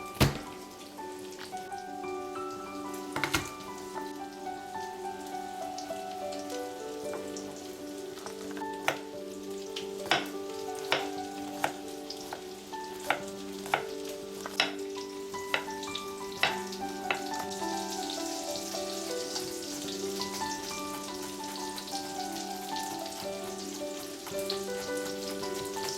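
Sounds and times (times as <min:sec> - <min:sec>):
food sizzling in a pan: 0:00.0 - 0:25.9
soft background music: 0:00.0 - 0:25.9.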